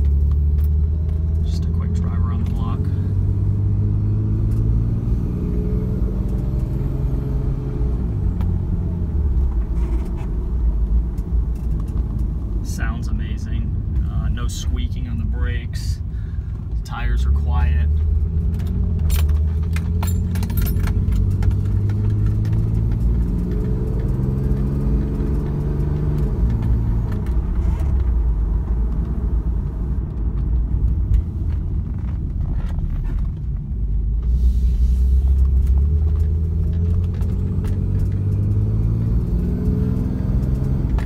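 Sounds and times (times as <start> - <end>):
car engine from inside cabin: 0.0 - 41.0.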